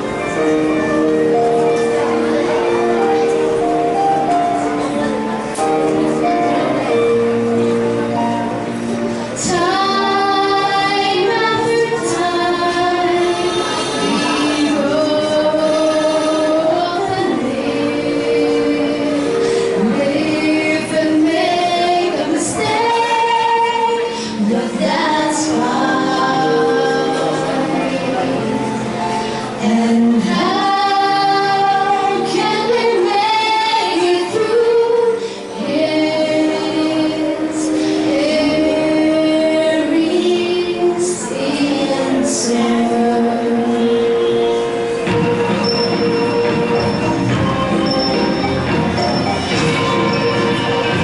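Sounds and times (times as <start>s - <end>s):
musical accompaniment: 0.0s - 51.0s
children singing together: 8.9s - 51.0s.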